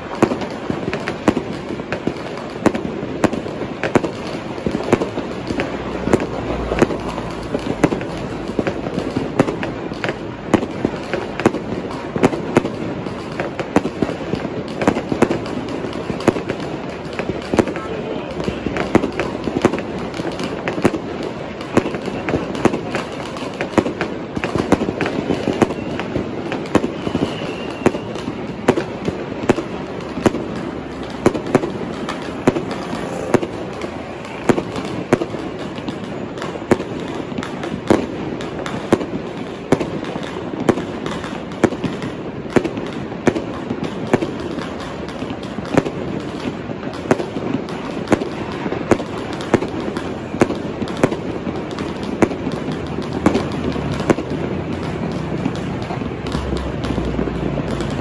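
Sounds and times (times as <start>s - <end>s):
firecrackers crackling: 0.0s - 58.0s
fireworks bangs: 0.0s - 58.0s.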